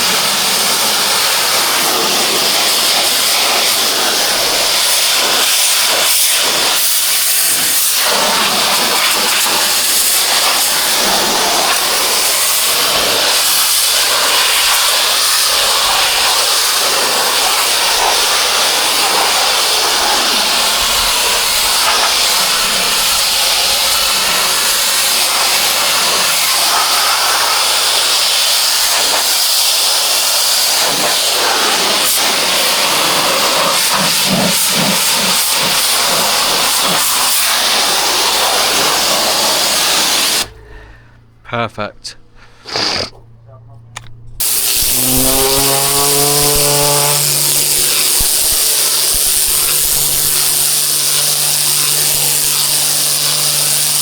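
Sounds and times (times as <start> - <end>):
pressure washer spraying: 0.0 - 40.5, 42.7 - 43.1, 44.4 - 54.0.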